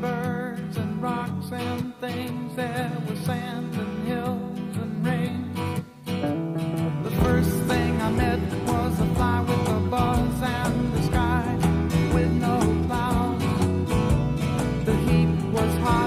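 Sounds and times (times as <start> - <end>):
country song with guitar: 0.0 - 16.0.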